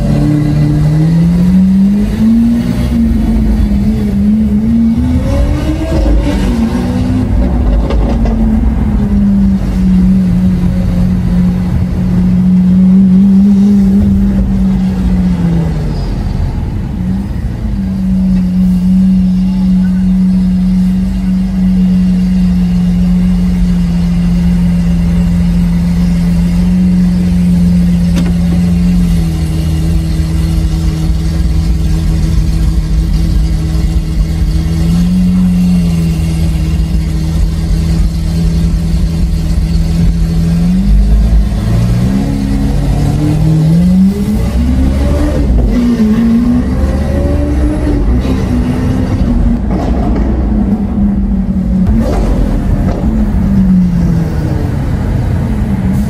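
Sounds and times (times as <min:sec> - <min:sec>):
car engine droning and revving: 0:00.0 - 0:56.0.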